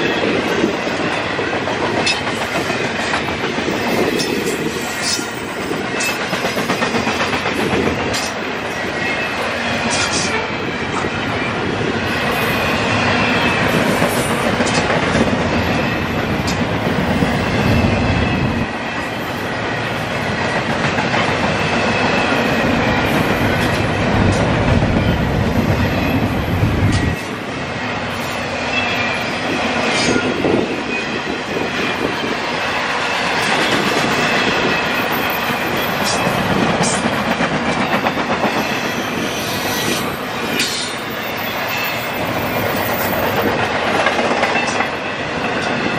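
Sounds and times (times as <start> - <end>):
heavy low train rumble: 0.0 - 45.9
train wheels clickety-clack on rails: 0.0 - 45.9.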